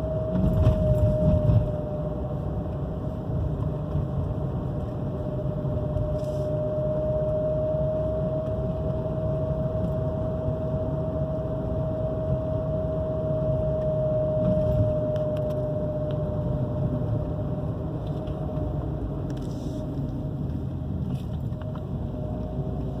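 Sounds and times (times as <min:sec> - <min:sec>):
car engine droning with whine: 0:00.0 - 0:23.0.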